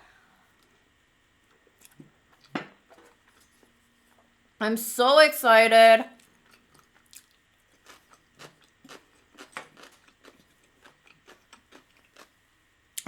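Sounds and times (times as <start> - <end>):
faint chewing: 0.5 - 4.3, 6.2 - 13.0.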